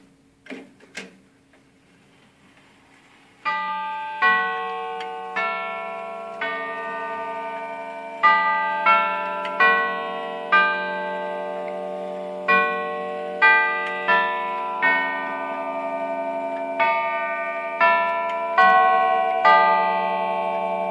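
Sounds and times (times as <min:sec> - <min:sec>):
tubular clock chimes playing melody: 0:03.5 - 0:20.9.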